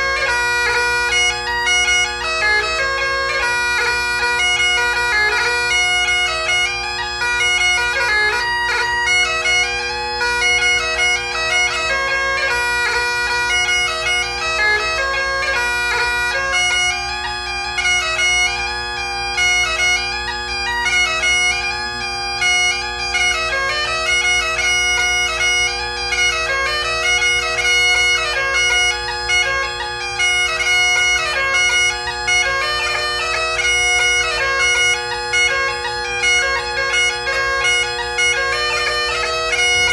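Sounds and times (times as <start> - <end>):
bagpipe chanter melody: 0.0 - 39.9
bagpipe drones: 0.0 - 39.9.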